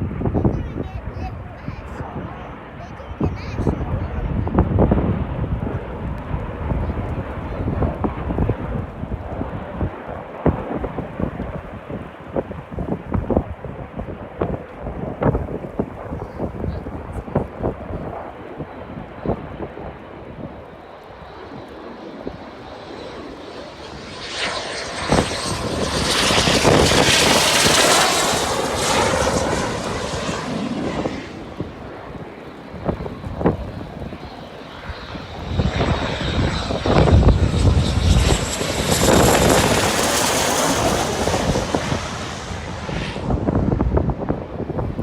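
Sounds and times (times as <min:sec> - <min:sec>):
jet passing low: 0:00.0 - 0:45.0.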